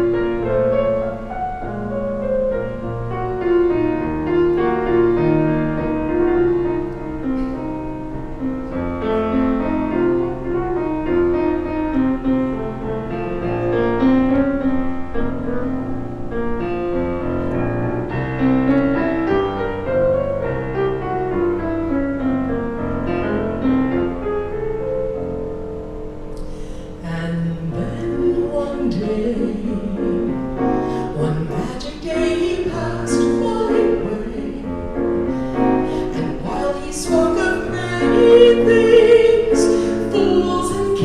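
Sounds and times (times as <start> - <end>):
piano playing: 0.0 - 41.0.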